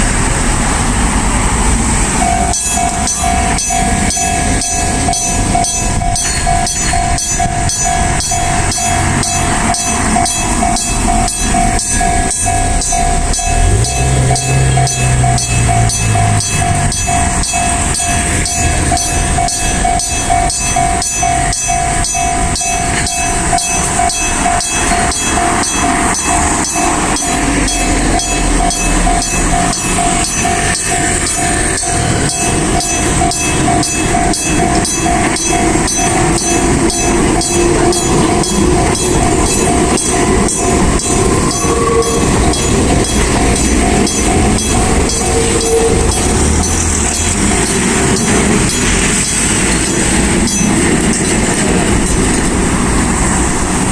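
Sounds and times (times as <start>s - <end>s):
level crossing bell ringing: 1.7s - 52.7s.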